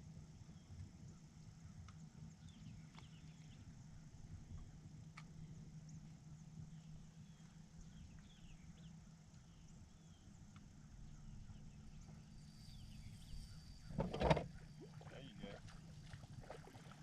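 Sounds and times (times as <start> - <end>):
steady low hum: 0.0 - 17.0
faint birds chirping: 0.1 - 17.0.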